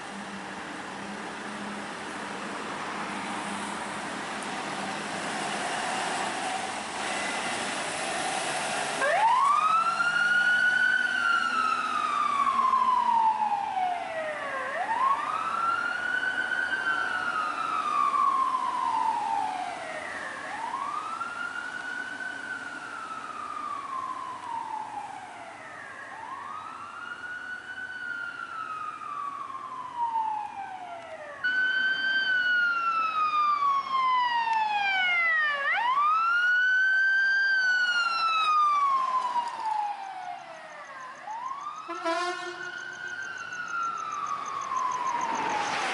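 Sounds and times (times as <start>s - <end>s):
road traffic: 0.0s - 45.9s
emergency vehicle siren wailing: 2.6s - 45.9s.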